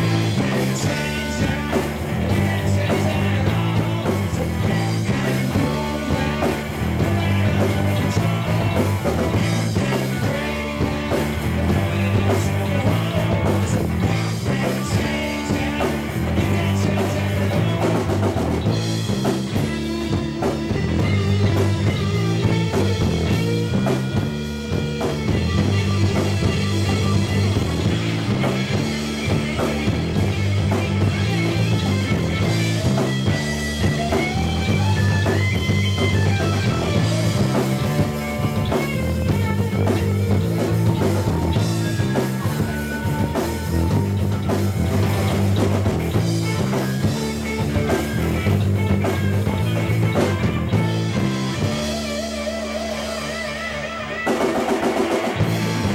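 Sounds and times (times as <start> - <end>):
bass guitar riff: 0.0 - 55.9
drum kit: 0.0 - 55.9
electric guitar lines: 0.0 - 55.9.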